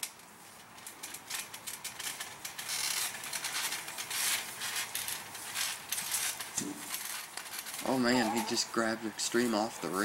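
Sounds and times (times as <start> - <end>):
trampoline springs creaking: 0.0 - 10.0.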